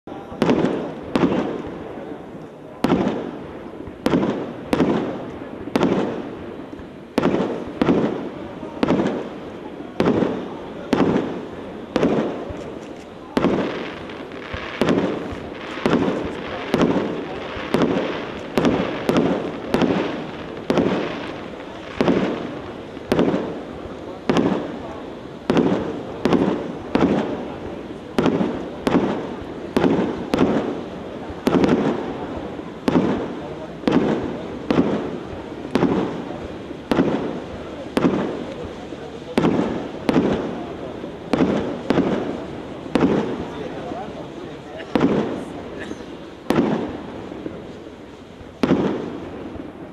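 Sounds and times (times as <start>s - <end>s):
firework sparks bursting and hissing: 0.0s - 49.9s.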